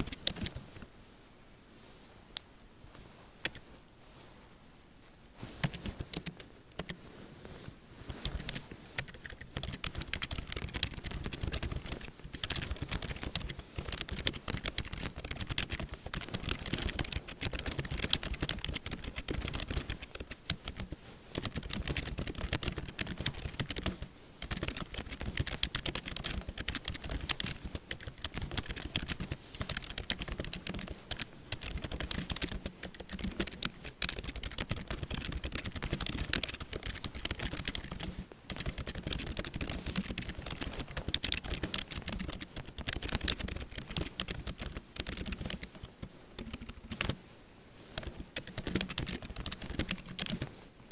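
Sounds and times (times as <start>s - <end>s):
rapid keyboard typing: 0.0s - 0.7s, 5.5s - 7.0s, 8.1s - 47.2s, 47.9s - 50.9s.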